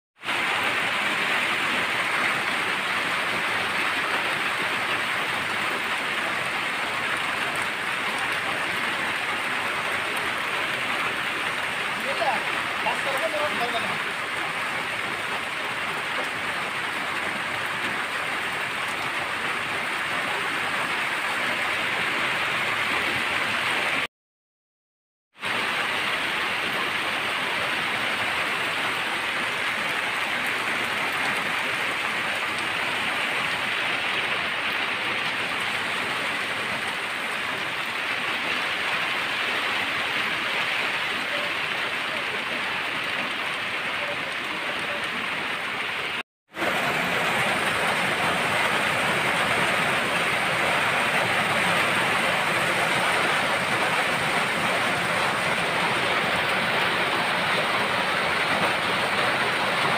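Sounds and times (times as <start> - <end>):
steady rain falling: 0.2 - 24.1, 25.4 - 59.9.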